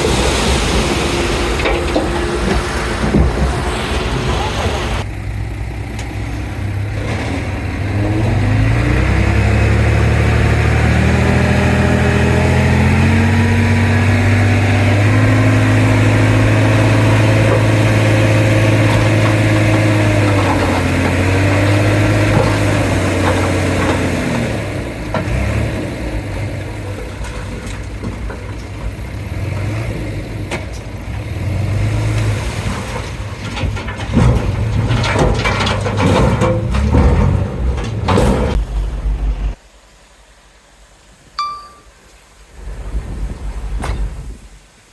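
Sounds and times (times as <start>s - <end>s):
bulldozer diesel engine: 0.0s - 39.6s.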